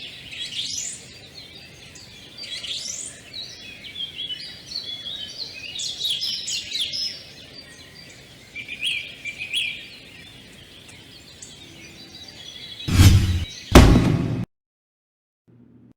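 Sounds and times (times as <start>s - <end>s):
small birds chirping: 0.0s - 13.7s.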